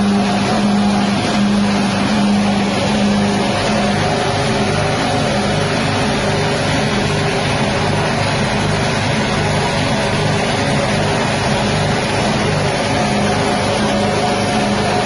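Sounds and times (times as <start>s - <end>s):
grinding machine engine running: 0.0s - 15.0s.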